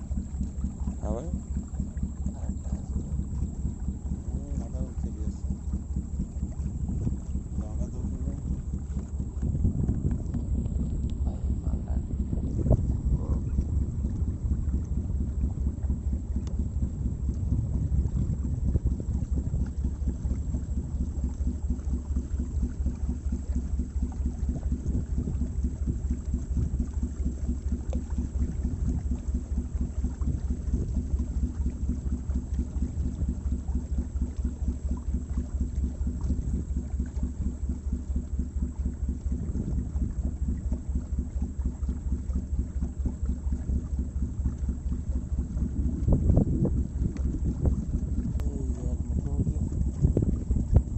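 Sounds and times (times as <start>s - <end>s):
motorboat engine throbbing: 0.0s - 50.9s.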